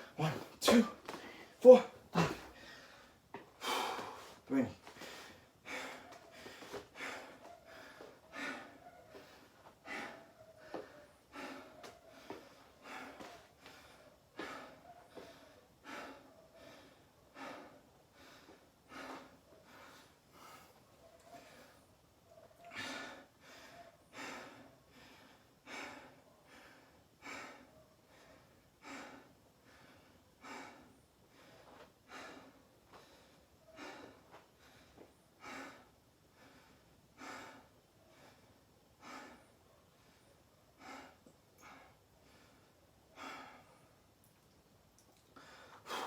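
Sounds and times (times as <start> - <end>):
person breathing hard: 0.0 - 21.9, 22.7 - 44.0, 45.4 - 46.0.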